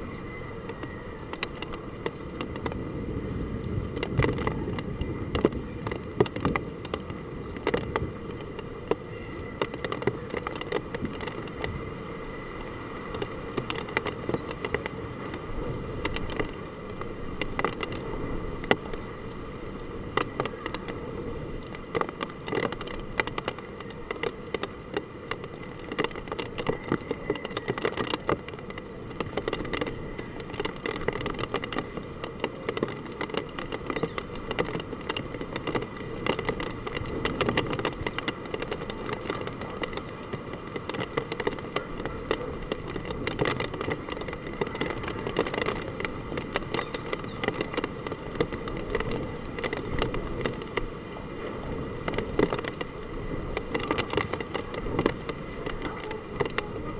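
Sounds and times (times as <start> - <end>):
heavy rain with wind: 0.0 - 56.9
raindrops ticking on hard surface: 0.2 - 56.9.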